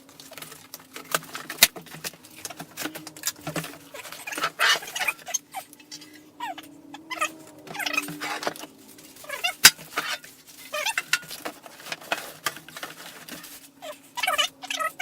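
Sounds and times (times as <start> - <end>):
polystyrene squeaking and creaking: 0.0 - 15.0.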